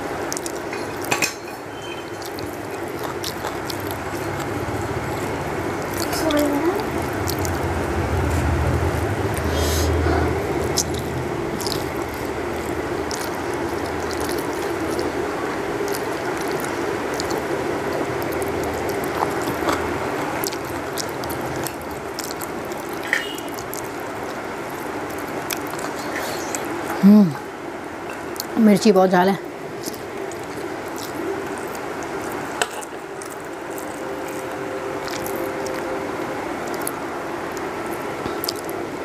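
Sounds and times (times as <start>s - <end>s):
chewing: 0.0s - 1.2s, 1.9s - 27.0s, 28.1s - 28.6s, 29.7s - 38.9s
low background hum: 0.0s - 39.0s.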